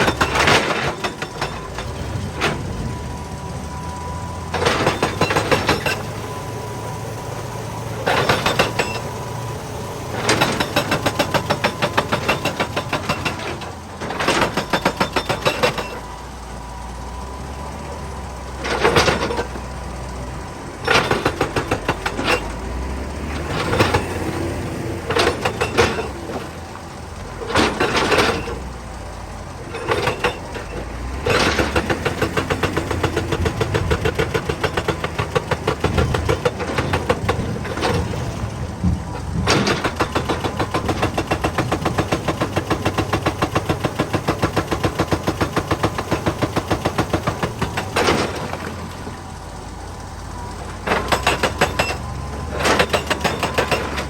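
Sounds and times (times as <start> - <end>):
hydraulic rock breaker hammering: 0.0 - 16.1, 18.6 - 19.7, 20.8 - 28.8, 29.6 - 49.2, 50.6 - 54.0
diesel engine running: 0.0 - 54.0.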